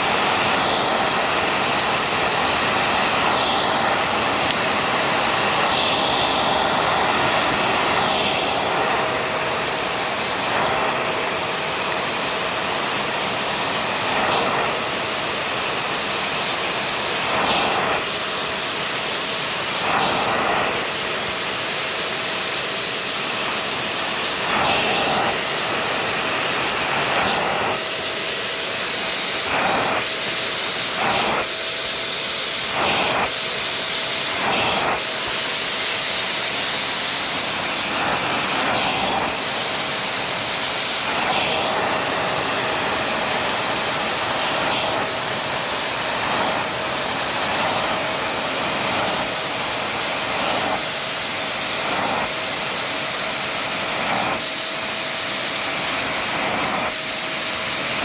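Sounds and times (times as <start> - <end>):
vacuum cleaner on rug: 0.0 - 58.0.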